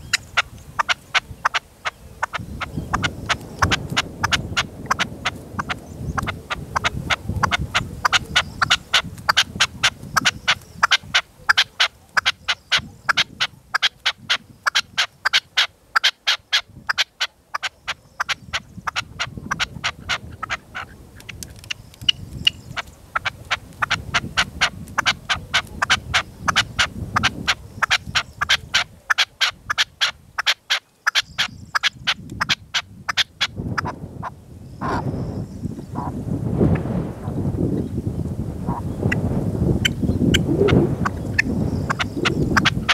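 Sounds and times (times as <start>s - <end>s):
wind rumbling on microphone: 0.0s - 30.5s, 31.2s - 42.9s
partridges calling: 0.0s - 33.9s, 41.0s - 42.9s.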